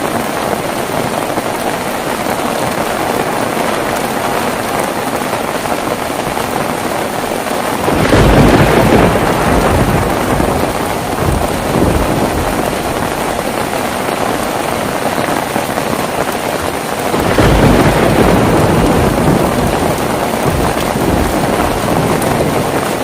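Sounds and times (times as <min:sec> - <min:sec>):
heavy rain falling: 0:00.0 - 0:23.0
thunder rumble: 0:00.0 - 0:23.0.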